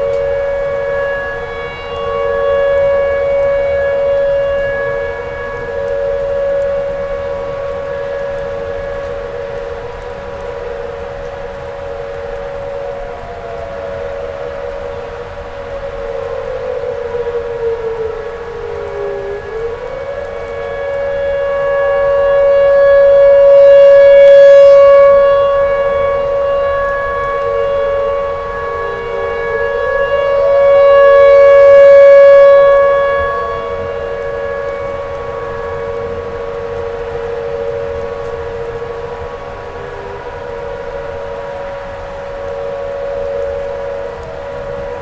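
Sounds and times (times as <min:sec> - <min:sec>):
warning siren wailing: 0:00.0 - 0:45.0.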